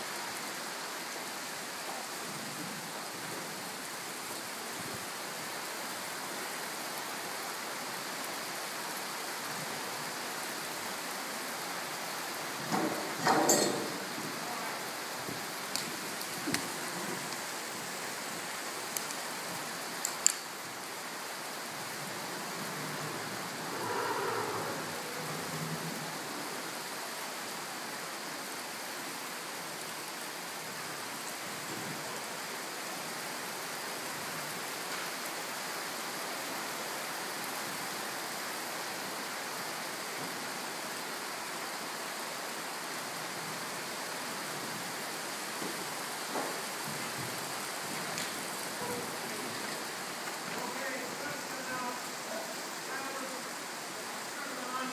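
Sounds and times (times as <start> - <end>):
rain-like hiss: 0.0 - 54.9.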